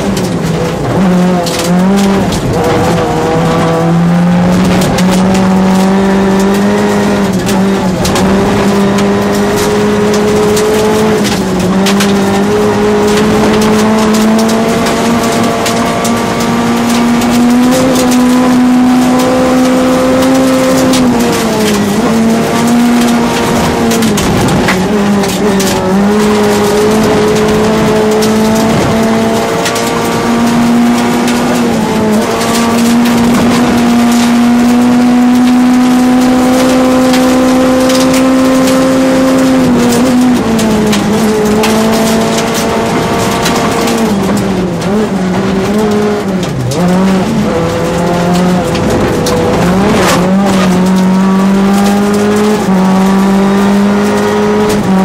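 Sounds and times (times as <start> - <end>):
gravel clattering against car: 0.0 - 55.0
rally car engine running hard: 0.0 - 55.0.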